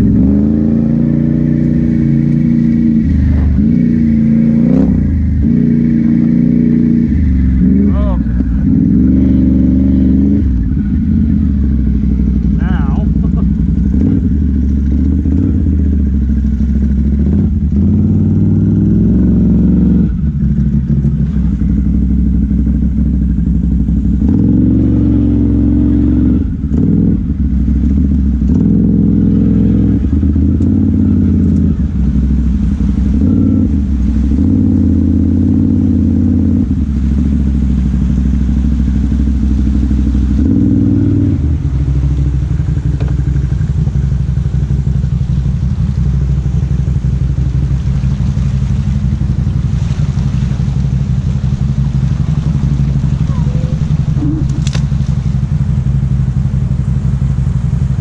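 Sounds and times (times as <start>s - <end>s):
off-road vehicle engine: 0.0s - 58.0s.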